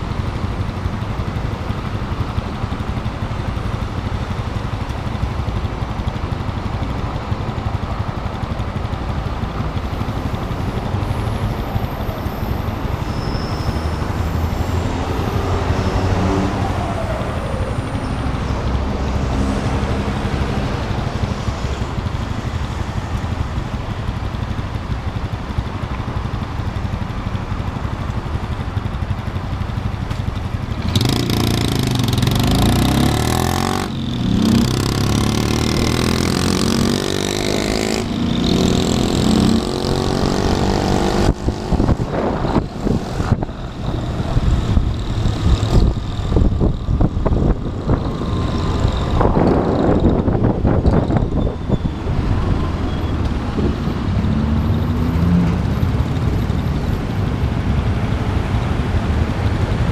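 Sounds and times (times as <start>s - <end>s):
motorcycle engine accelerating: 0.2s - 25.3s, 27.8s - 59.9s.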